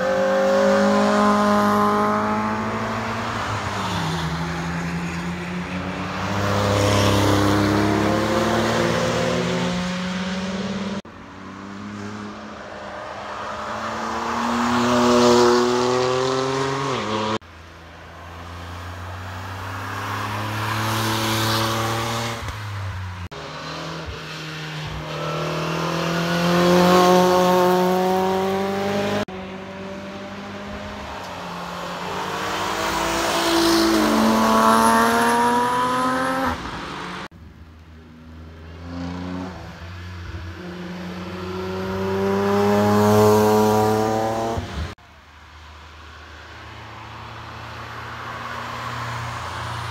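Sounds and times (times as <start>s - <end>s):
cars passing at speed: 0.0s - 49.9s.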